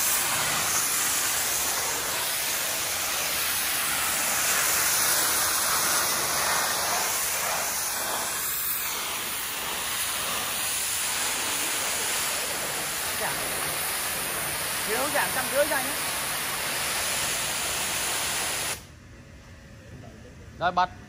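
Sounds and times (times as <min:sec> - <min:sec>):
pressure washer spray hissing: 0:00.0 - 0:18.9.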